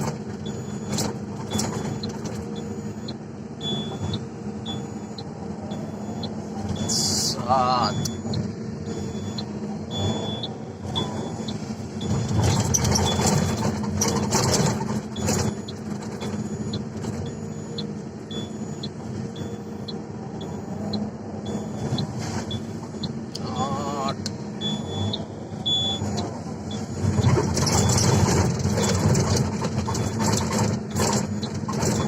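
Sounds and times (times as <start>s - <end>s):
heavy machinery engine running: 0.0s - 32.0s.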